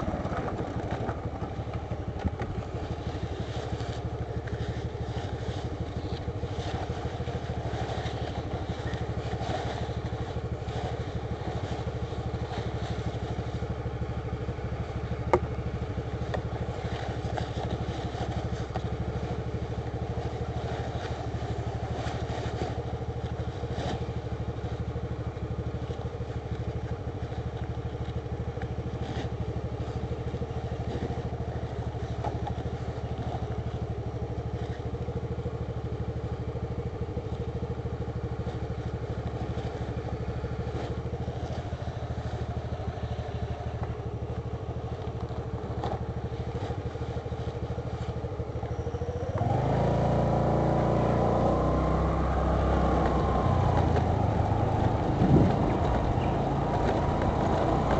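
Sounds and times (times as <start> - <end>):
motor scooter engine idling: 0.0 - 57.9
scooter engine revving: 0.0 - 57.9.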